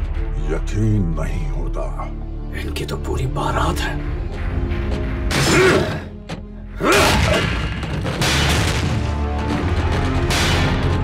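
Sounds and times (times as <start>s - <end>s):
low droning music: 0.0s - 11.0s.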